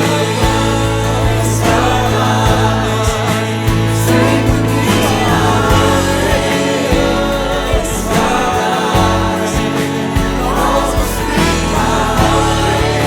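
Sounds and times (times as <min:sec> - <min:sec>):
worship song singing: 0:00.0 - 0:13.0.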